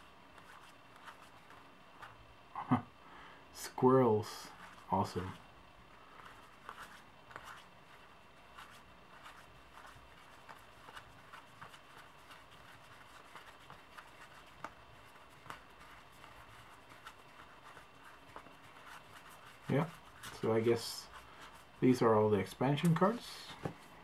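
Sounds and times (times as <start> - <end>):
playing cards being handled: 0.3 - 2.2, 4.4 - 24.0.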